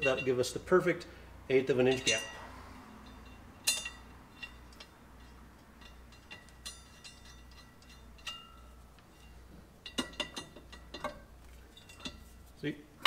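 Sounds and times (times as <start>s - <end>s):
low steady hum: 0.0s - 13.0s
metallic clinks of bolts on steel: 1.8s - 12.4s.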